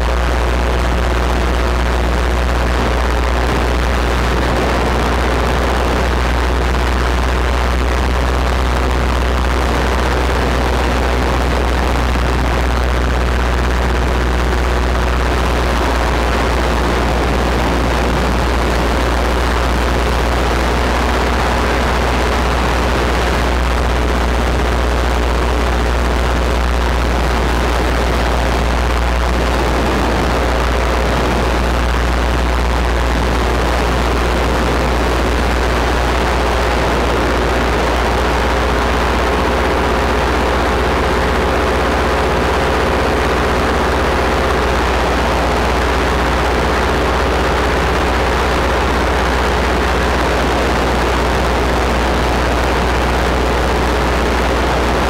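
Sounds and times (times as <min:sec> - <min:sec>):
paramotor engine droning: 0:00.0 - 0:55.0.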